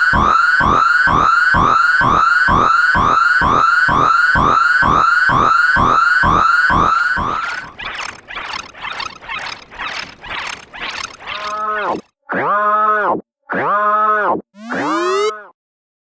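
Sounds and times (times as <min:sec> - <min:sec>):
electronic alarm tone swooping upward: 0:00.0 - 0:11.9, 0:14.6 - 0:15.5.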